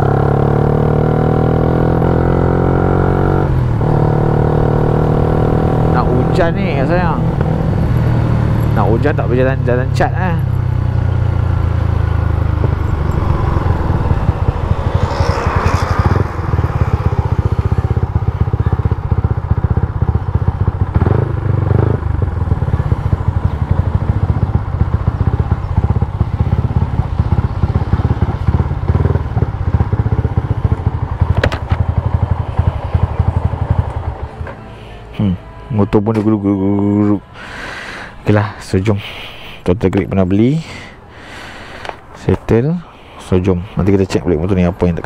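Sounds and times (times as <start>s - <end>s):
motorcycle engine running: 0.0s - 38.6s.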